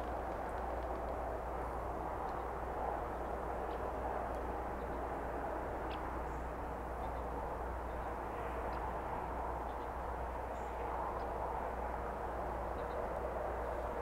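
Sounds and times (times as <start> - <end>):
rushing outdoor ambient noise: 0.0 - 14.0.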